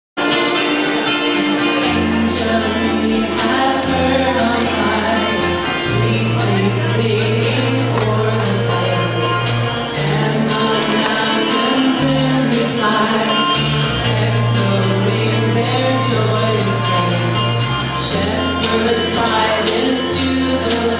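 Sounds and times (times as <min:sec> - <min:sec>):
held bass notes: 0:00.2 - 0:20.9
live band playing: 0:00.2 - 0:20.9
voices singing: 0:01.4 - 0:20.9.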